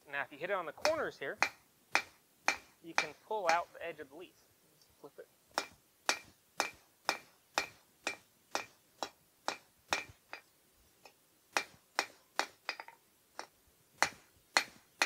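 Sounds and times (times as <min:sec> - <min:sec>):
hammer striking steel on anvil: 0:00.8 - 0:03.8, 0:05.5 - 0:15.0.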